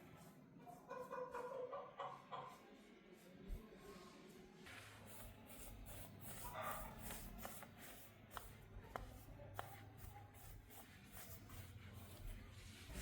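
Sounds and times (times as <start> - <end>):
faint scraping and rustling: 2.1 - 13.0.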